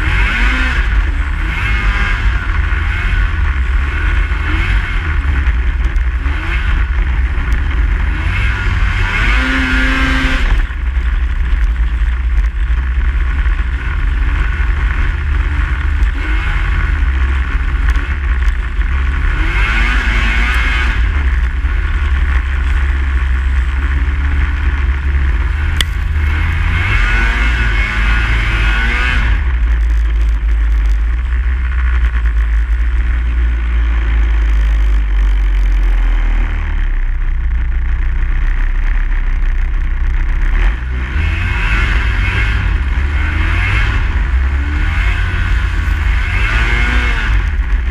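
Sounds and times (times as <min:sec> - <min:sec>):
snowmobile engine rumbling: 0:00.0 - 0:47.9.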